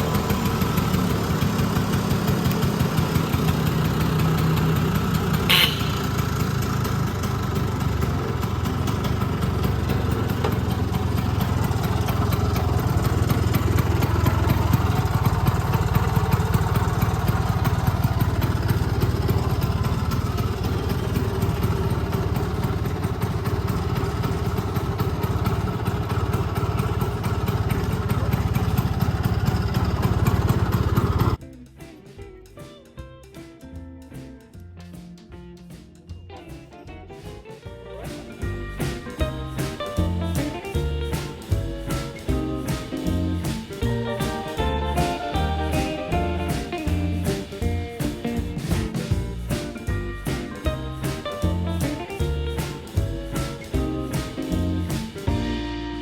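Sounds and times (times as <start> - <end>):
scooter engine idling: 0.0 - 31.4, 38.0 - 56.0.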